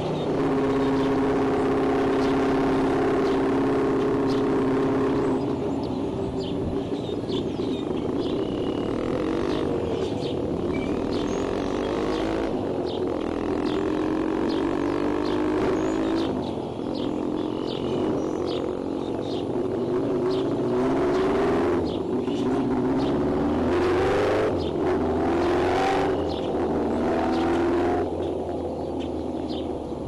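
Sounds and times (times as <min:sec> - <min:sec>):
bird chirps: 0:00.0 - 0:30.0
low hum shifting pitch: 0:00.0 - 0:30.0.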